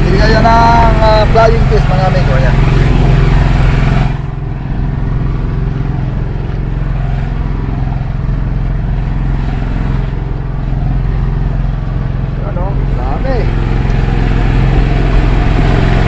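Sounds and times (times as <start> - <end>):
small engine droning: 0.0 - 16.0.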